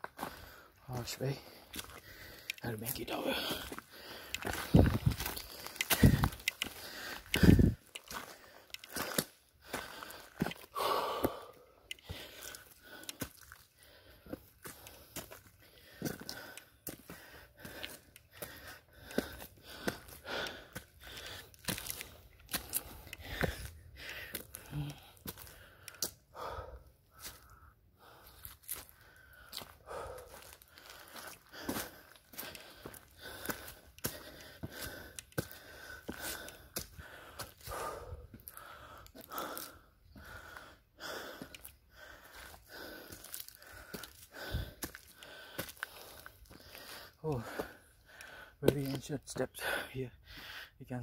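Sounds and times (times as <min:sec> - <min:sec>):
footsteps crunching on gritty stone: 0:00.0 - 0:26.5, 0:27.2 - 0:47.8, 0:48.6 - 0:49.1
person breathing hard: 0:00.1 - 0:48.6, 0:49.5 - 0:50.8.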